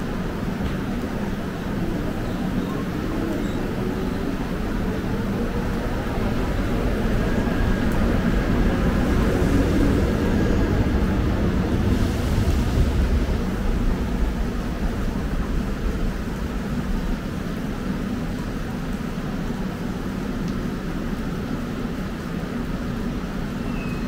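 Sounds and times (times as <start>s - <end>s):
train rumbling: 0.0s - 20.2s.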